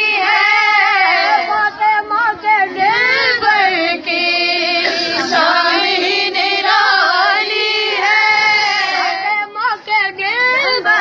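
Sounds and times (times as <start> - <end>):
women singing: 0.0 - 11.0.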